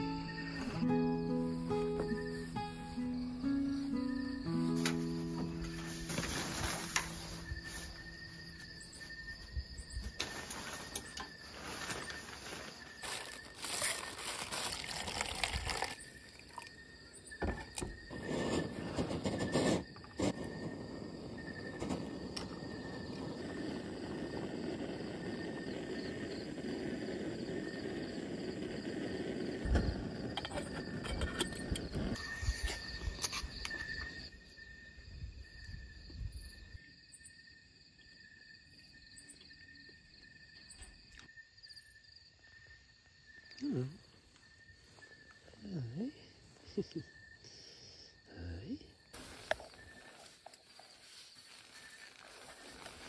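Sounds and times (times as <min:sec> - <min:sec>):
night insects chirring: 0:00.0 - 0:53.0.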